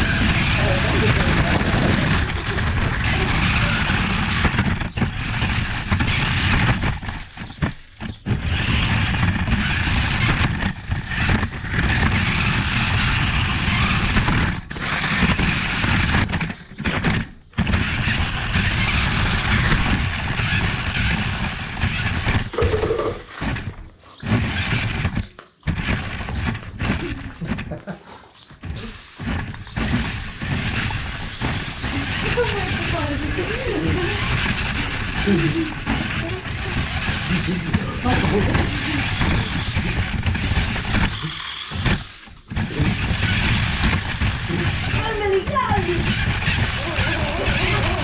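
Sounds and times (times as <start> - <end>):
toy remote-control cars running: 0.0 - 48.0.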